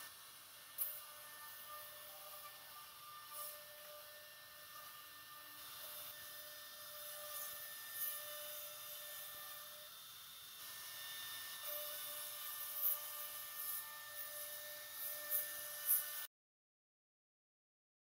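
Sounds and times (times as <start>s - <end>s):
router spindle whining: 0.0s - 16.3s.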